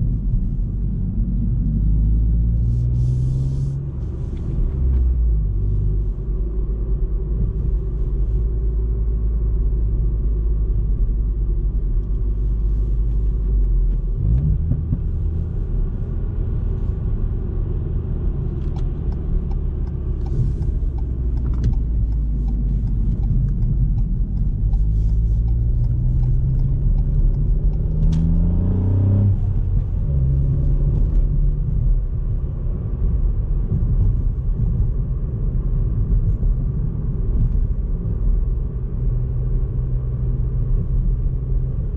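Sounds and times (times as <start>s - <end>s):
car engine running: 0.0s - 41.9s.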